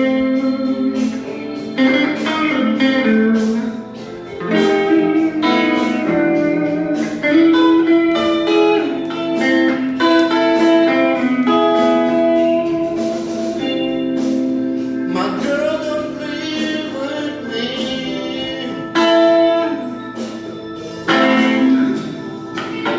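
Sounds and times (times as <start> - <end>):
blues guitar solo: 0.0 - 22.9.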